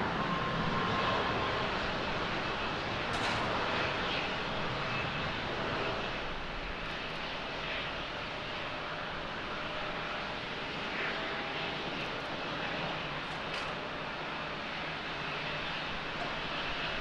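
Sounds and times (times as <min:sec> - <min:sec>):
distant jet engines: 0:00.0 - 0:17.0.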